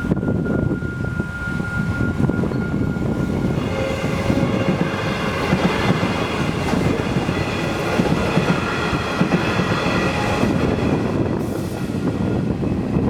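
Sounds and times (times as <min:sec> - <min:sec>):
high ringing tone: 0:00.0 - 0:10.7
electric train rumbling past: 0:00.0 - 0:13.0.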